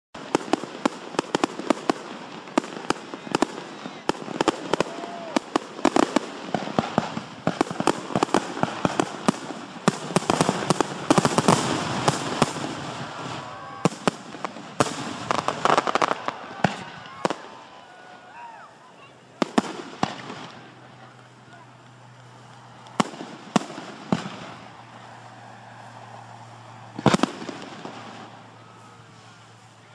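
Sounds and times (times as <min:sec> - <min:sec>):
fireworks bangs: 0:00.2 - 0:29.9.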